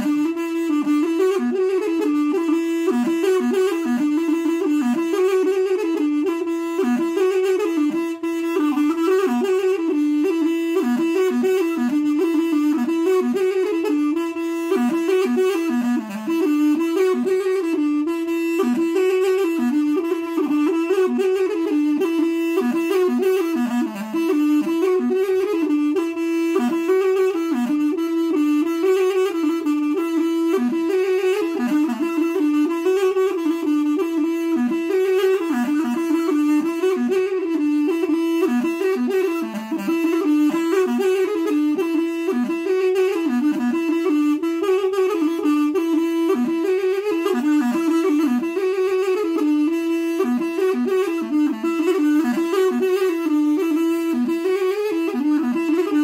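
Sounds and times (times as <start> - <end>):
reed pipe folk melody: 0.0 - 56.0.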